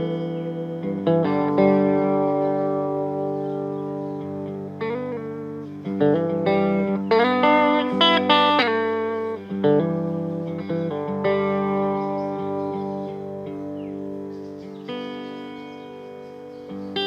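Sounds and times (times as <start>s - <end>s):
guitar picked notes and chords: 0.0s - 17.0s.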